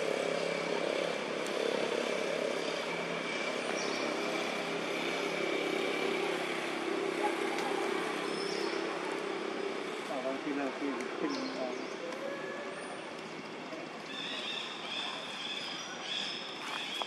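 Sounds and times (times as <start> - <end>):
engine droning: 0.0 - 15.4.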